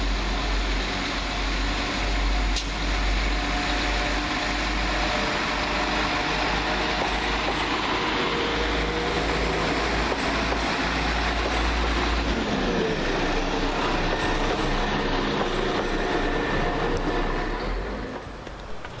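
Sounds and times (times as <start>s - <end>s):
diesel train running past: 0.0s - 19.0s.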